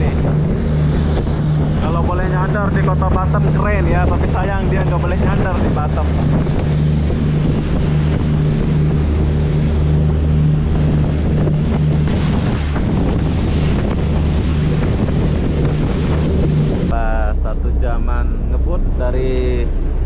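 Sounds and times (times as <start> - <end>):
ferry engines droning: 0.0 - 20.0
water rushing past hull: 0.0 - 20.0
wind buffeting microphone: 0.0 - 20.0.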